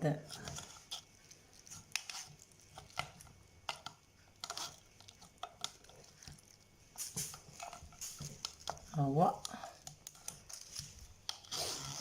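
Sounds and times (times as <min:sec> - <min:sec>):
faint clicks and soft squishes: 0:00.0 - 0:11.6.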